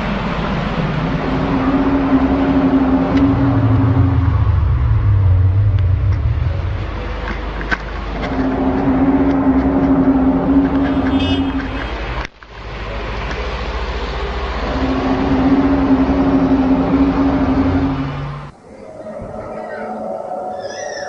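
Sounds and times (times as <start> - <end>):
low trumpet-like drone: 0.0 - 12.3, 14.0 - 20.9
constant low rumble: 0.0 - 21.0.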